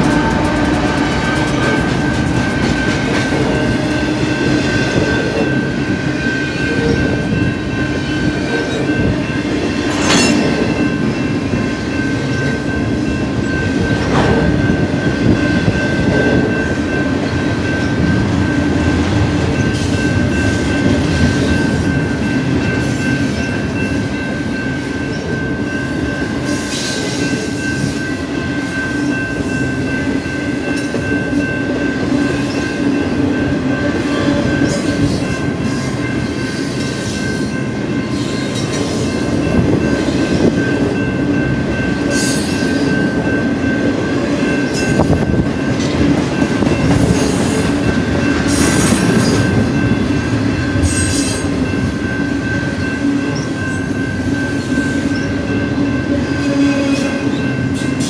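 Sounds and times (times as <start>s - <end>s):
crossing bell ringing: 0.0s - 58.0s
train wheels rumbling on rails: 0.0s - 58.0s.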